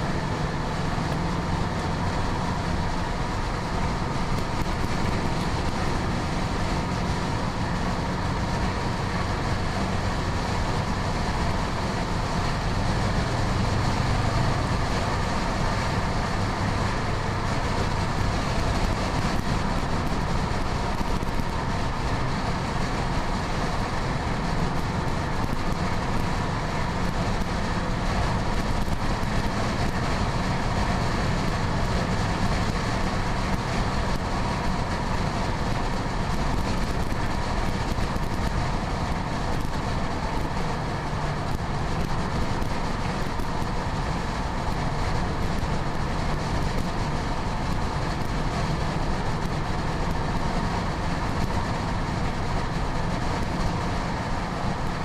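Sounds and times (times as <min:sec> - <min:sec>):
low engine drone: 0:00.0 - 0:55.0
road and wind noise: 0:00.0 - 0:55.0.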